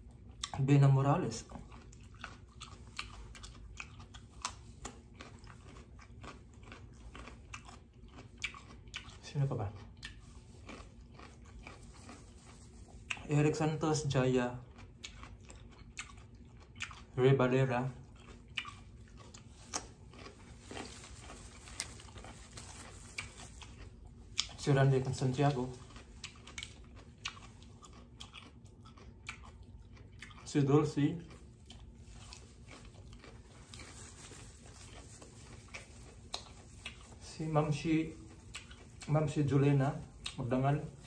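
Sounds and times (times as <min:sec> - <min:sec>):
person chewing crunchy food: 0:00.0 - 0:41.0.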